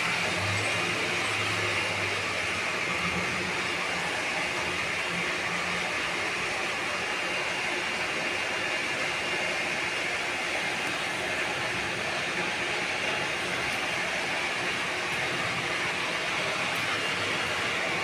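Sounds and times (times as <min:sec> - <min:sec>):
electric water pump running: 0:00.0 - 0:18.0.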